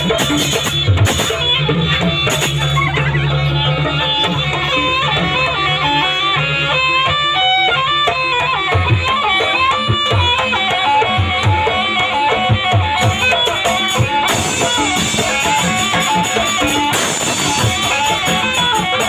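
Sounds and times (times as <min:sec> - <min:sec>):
hand drums: 0:00.0 - 0:19.0
reedy wind instrument melody: 0:00.0 - 0:19.0.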